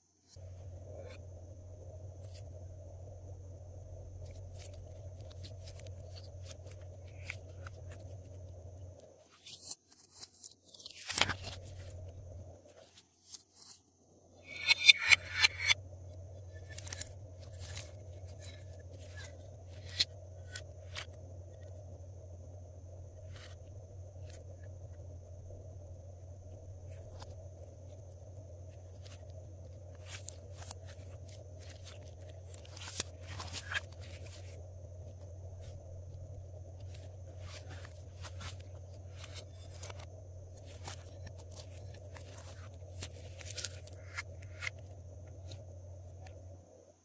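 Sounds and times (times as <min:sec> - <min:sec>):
steady low hum: 0:00.0 - 0:10.3, 0:11.0 - 0:13.1, 0:13.7 - 0:47.0.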